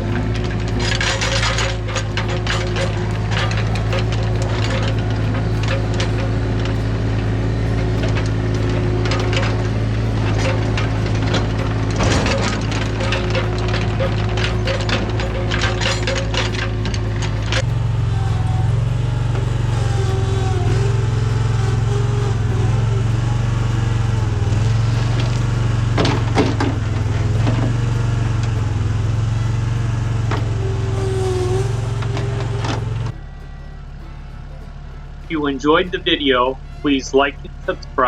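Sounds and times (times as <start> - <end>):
earthmoving machine engine running: 0.0 - 38.0.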